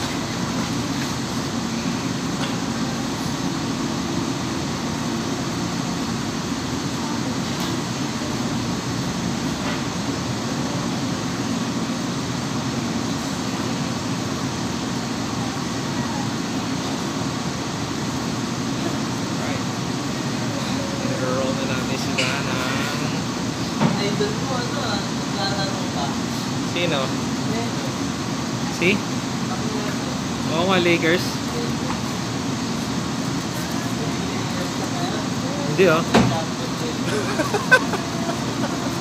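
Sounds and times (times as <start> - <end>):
mechanical hum and rumble: 0.0 - 39.0.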